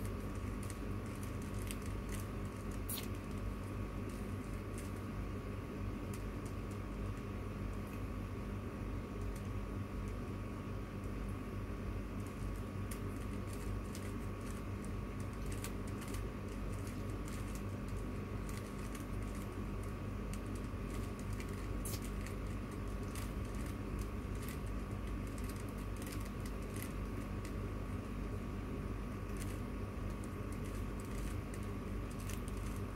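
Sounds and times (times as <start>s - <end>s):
steady background hum: 0.0s - 32.9s.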